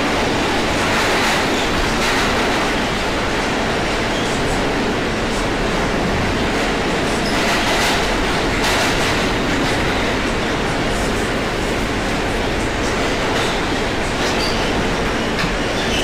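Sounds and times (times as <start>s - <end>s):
subway car rumbling and rattling: 0.0s - 16.0s.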